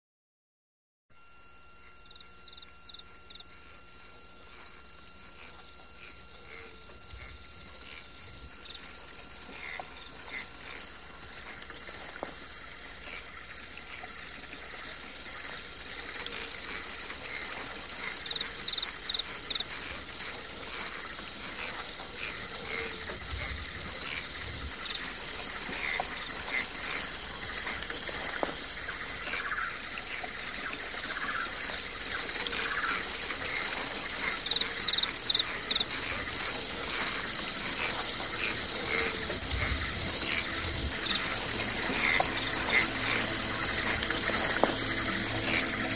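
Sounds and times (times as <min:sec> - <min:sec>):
frogs calling: 0:01.2 - 0:45.9
insects trilling: 0:01.2 - 0:45.9.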